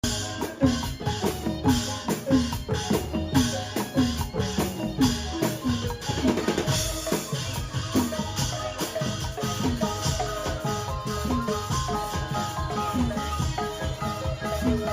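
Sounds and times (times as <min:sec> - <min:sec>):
background music with drum thumps: 0:00.0 - 0:14.9.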